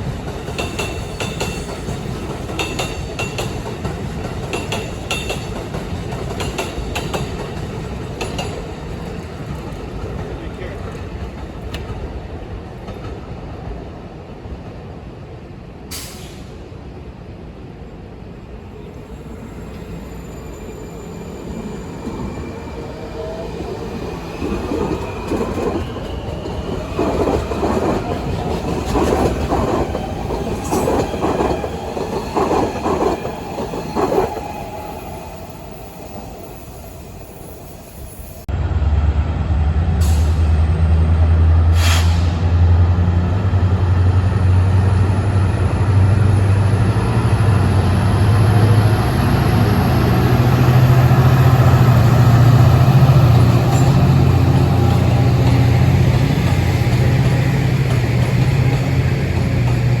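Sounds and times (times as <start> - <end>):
train wheels rattling on track: 0.0 - 14.9, 18.9 - 60.0.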